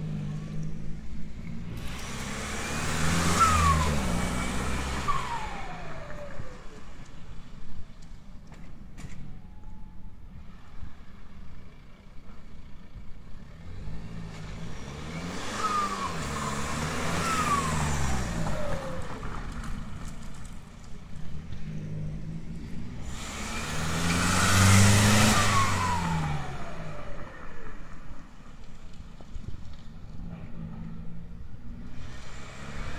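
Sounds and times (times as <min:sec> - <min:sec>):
diesel car engine revving: 0:00.0 - 0:08.1, 0:12.7 - 0:32.9.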